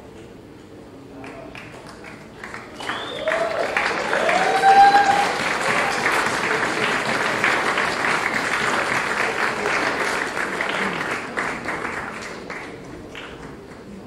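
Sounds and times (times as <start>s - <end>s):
audience applauding: 1.2s - 14.0s.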